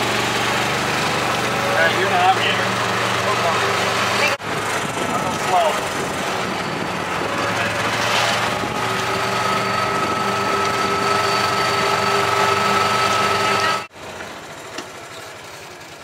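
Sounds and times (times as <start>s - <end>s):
steady whine: 0.0s - 14.9s
golf cart engine running: 0.0s - 16.0s.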